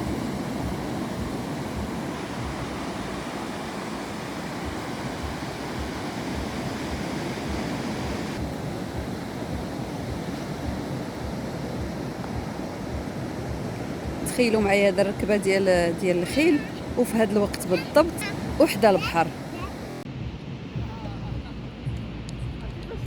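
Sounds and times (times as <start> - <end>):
sea waves washing on shore: 0.0 - 23.0
wind on microphone: 0.0 - 23.0.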